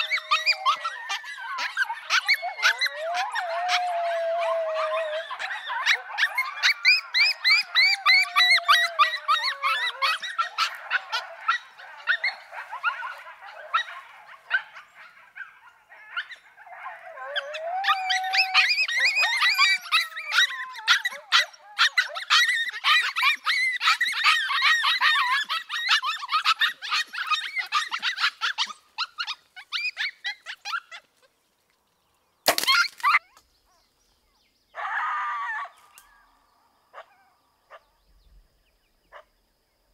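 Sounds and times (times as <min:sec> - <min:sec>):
coyotes yipping and howling: 0:00.0 - 0:31.6, 0:32.5 - 0:39.4.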